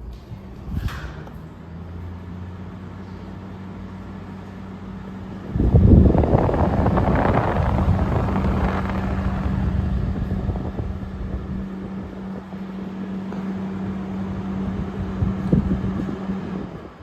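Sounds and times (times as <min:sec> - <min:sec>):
air conditioner fan blowing: 0:00.0 - 0:17.0
compressor hum: 0:00.0 - 0:17.0.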